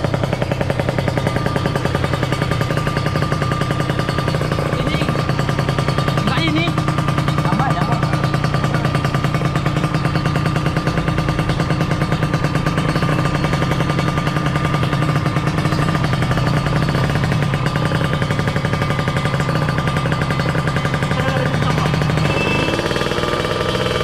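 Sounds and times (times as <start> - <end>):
two-stroke engine running: 0.0 - 24.0.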